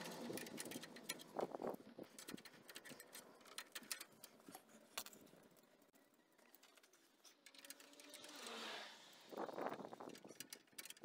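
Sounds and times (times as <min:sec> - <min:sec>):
metallic clicks of spanner: 0:00.0 - 0:05.2, 0:06.4 - 0:08.7, 0:09.3 - 0:11.0.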